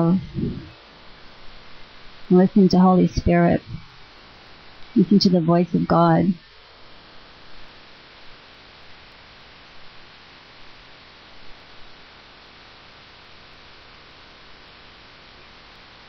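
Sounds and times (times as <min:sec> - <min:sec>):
broadcast line hiss and hum: 0:00.0 - 0:16.0.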